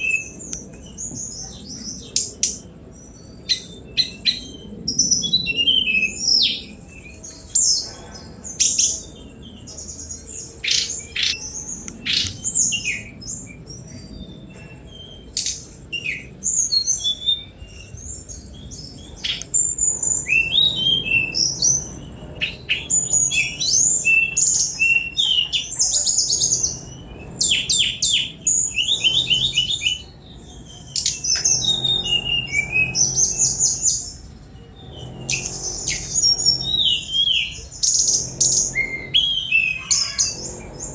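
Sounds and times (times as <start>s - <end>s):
flycatcher singing: 0.0s - 40.9s.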